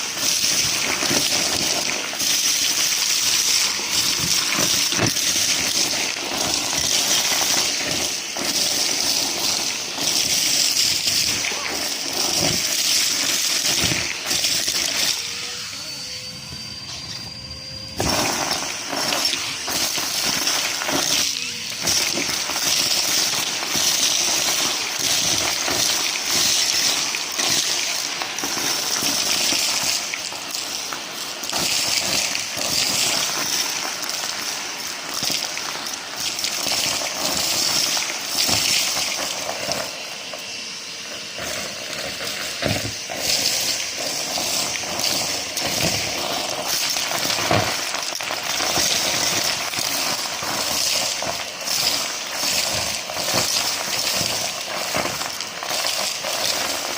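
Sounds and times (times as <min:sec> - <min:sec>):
debris rattling up vacuum hose: 0:00.0 - 0:15.6, 0:16.3 - 0:56.9
vacuum cleaner running: 0:00.0 - 0:56.9.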